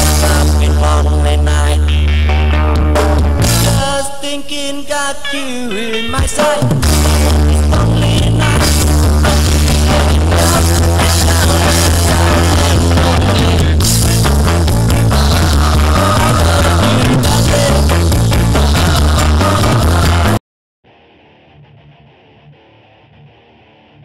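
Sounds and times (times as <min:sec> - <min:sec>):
heavy bass line: 0:00.0 - 0:20.4
loud rock music: 0:00.0 - 0:24.0.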